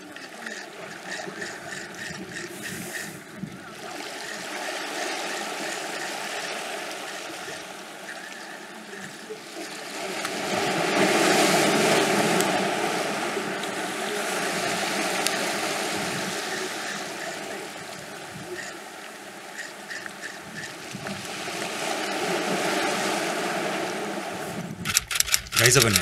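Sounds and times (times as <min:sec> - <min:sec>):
waves washing against rocks: 0:00.0 - 0:26.0.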